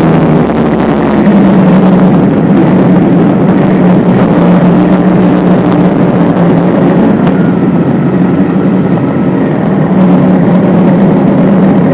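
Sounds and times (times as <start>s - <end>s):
motorcycle engine cruising: 0.0s - 11.9s
wind noise from riding: 0.0s - 11.9s.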